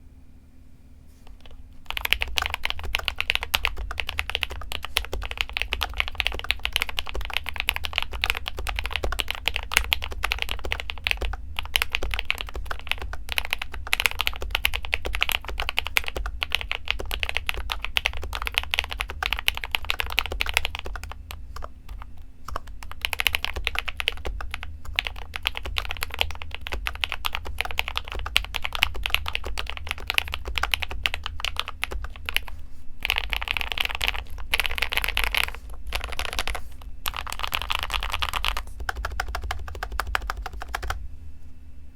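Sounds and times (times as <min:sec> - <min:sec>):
fast typing on mechanical keyboard: 0:01.2 - 0:41.0.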